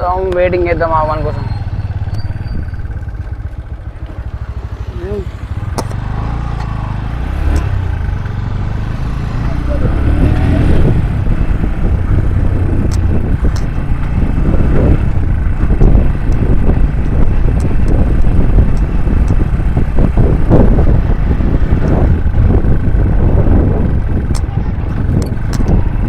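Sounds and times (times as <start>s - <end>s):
motorcycle engine running: 0.0s - 26.0s
wind rumble on microphone: 0.0s - 26.0s.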